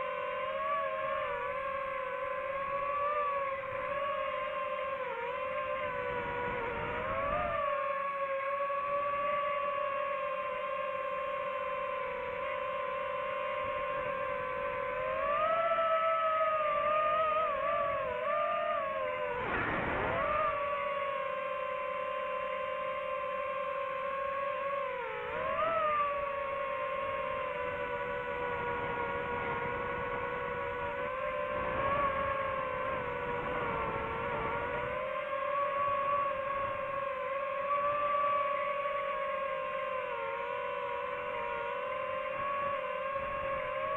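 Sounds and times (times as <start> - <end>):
drone propellers whining: 0.0 - 43.9.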